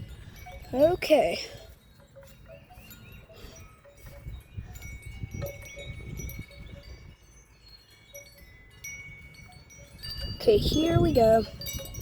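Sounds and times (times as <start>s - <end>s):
wind chimes ringing: 0.0s - 12.0s
wind rumbling on microphone: 0.0s - 12.0s.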